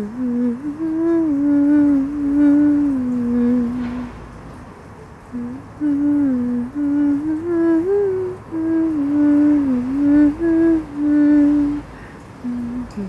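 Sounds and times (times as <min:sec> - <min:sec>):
person humming a slow melody: 0:00.0 - 0:04.2, 0:05.3 - 0:13.0.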